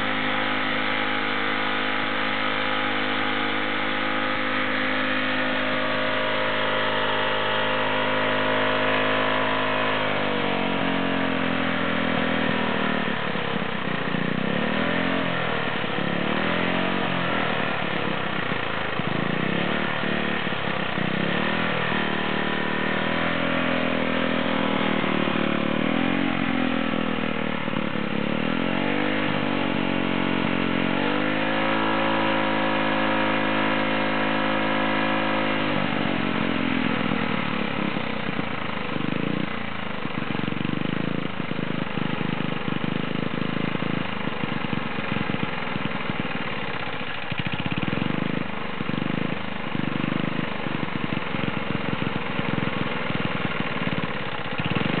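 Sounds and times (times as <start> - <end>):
lawn mower engine revving: 0.0 - 55.0.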